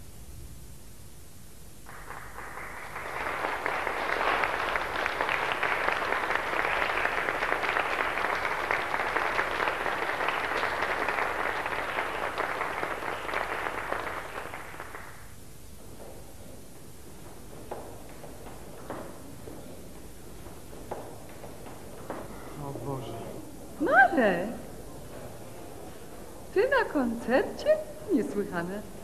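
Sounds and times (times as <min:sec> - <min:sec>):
audience applauding: 0:01.8 - 0:27.4.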